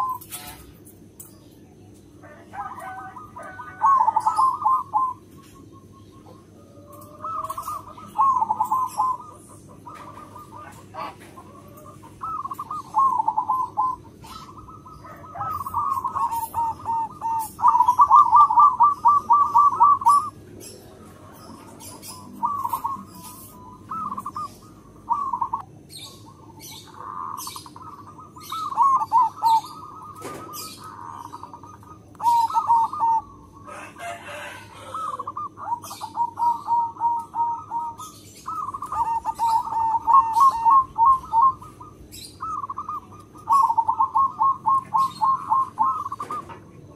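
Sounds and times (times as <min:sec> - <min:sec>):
dove cooing: 0:00.0 - 0:46.9.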